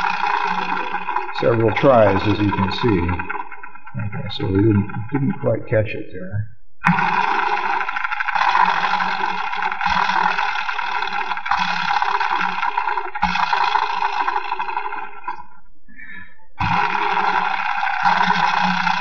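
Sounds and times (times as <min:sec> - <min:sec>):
motor whirring with rough buzz: 0:00.0 - 0:05.1, 0:06.8 - 0:15.5, 0:16.6 - 0:19.0.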